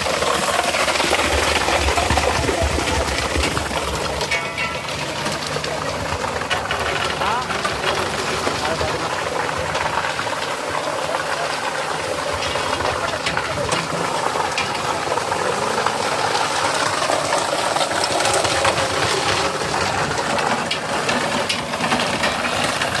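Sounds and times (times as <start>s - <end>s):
concrete mixer rushing hiss: 0.0s - 23.0s
truck engine running: 0.0s - 23.0s.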